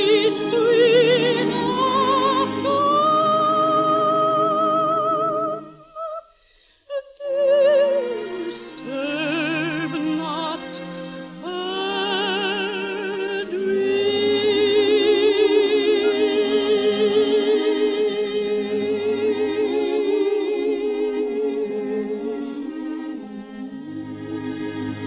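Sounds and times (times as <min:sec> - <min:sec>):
woman singing operatically: 0:00.0 - 0:25.0.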